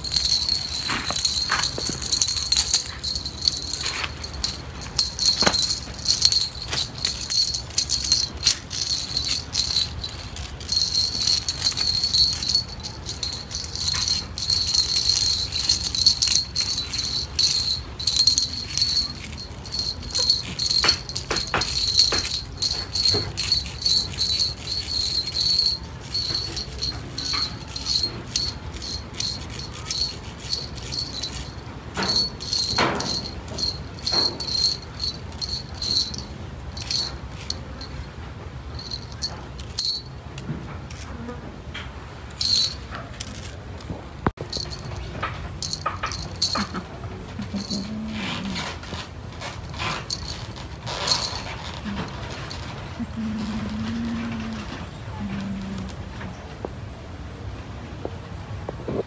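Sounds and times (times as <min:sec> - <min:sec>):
small bells jingling: 0:00.0 - 0:41.2, 0:42.2 - 0:56.0.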